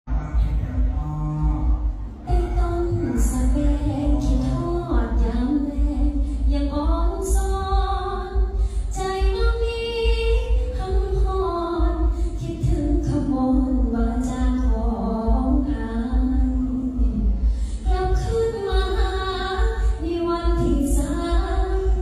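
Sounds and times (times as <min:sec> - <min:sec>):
low rumble: 0:00.1 - 0:22.0
woman singing unaccompanied: 0:02.2 - 0:22.0.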